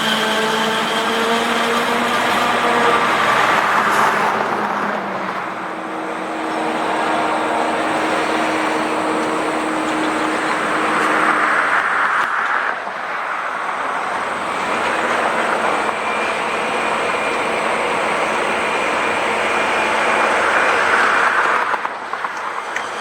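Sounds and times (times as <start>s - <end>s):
highway traffic passing: 0.0s - 23.0s.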